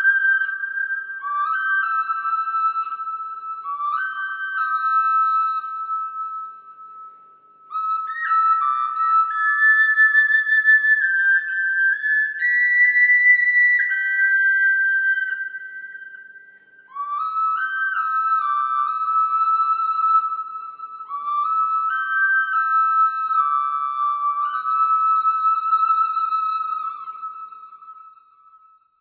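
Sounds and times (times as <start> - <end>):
solo flute melody: 0.0 - 29.0.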